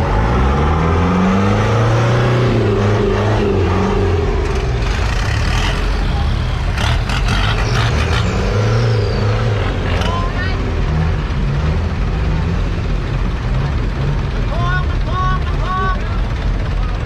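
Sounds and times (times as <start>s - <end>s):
boat engine running: 1.8s - 17.0s.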